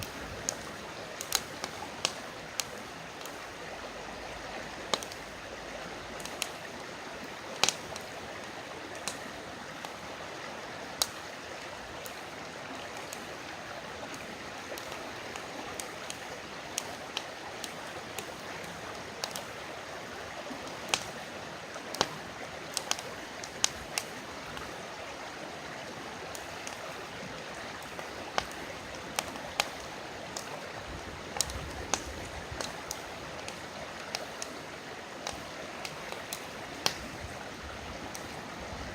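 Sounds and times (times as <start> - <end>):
campfire crackling and popping: 0.0 - 38.9
river flowing: 0.0 - 38.9.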